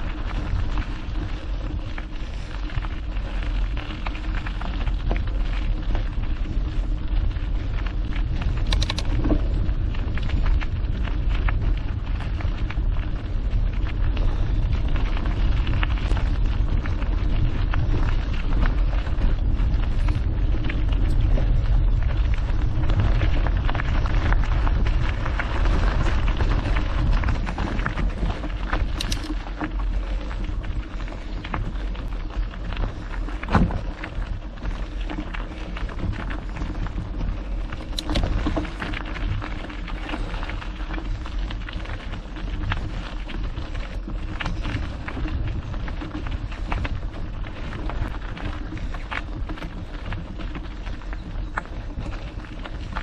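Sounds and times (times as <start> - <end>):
bike rattling: 0.0 - 53.0
bike tyres crunching on stones: 0.0 - 53.0
wind on microphone: 0.0 - 53.0.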